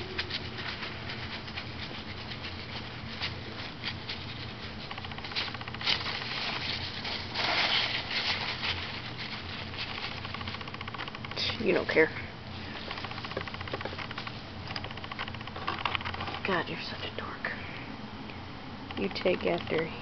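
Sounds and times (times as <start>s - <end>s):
packing peanuts rustling and squeaking: 0.0s - 16.6s.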